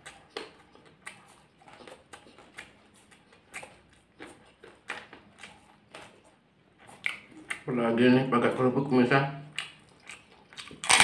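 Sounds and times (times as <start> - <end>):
people chewing with mouth smacks: 0.0 - 11.0.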